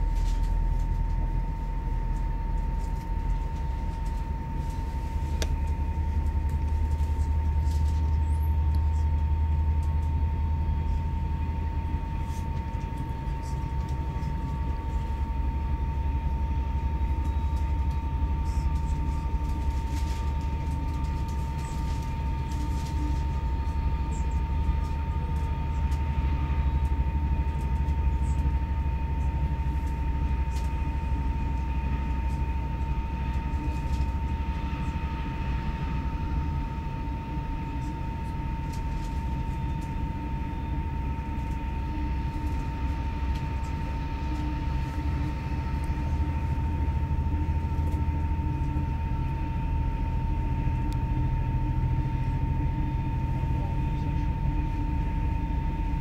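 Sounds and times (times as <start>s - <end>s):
train rumble from inside carriage: 0.0s - 56.0s.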